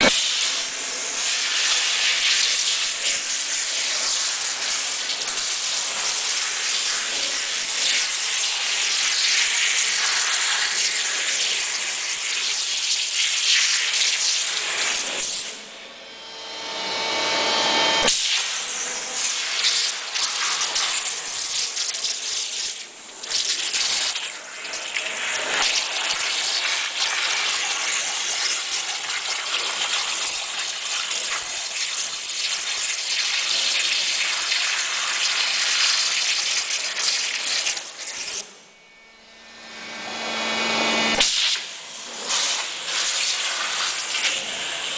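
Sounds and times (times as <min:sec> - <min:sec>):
water jet hissing: 0:00.0 - 0:15.6, 0:18.0 - 0:38.4, 0:40.9 - 0:44.9.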